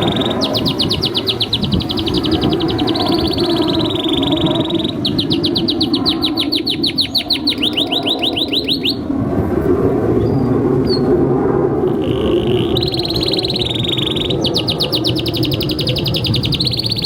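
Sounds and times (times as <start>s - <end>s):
canary singing: 0.0s - 9.1s, 11.9s - 17.0s.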